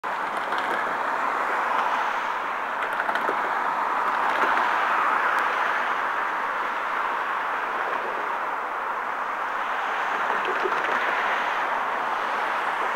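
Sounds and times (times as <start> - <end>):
road traffic tyre hiss: 0.1 - 12.9.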